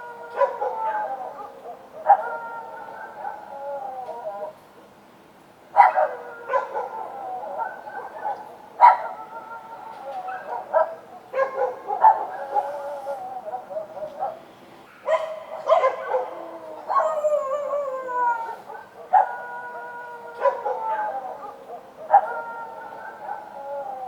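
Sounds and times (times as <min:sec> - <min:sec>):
dogs barking: 0:00.0 - 0:03.5, 0:05.8 - 0:09.4, 0:10.1 - 0:17.4, 0:18.7 - 0:23.6
dogs howling: 0:00.0 - 0:04.6, 0:05.8 - 0:14.4, 0:15.0 - 0:24.0.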